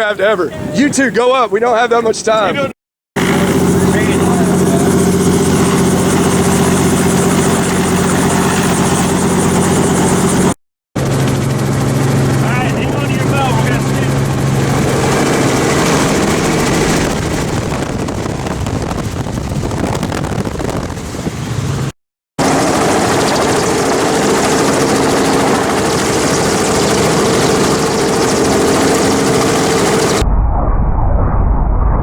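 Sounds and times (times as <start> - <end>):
helicopter engine and rotor: 3.2 - 30.2.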